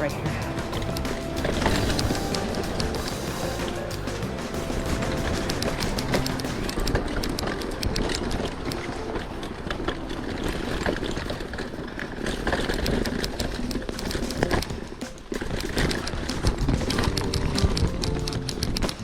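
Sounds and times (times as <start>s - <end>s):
bike rattling over bumps: 0.0s - 19.0s
tyre and wind noise: 0.0s - 19.0s.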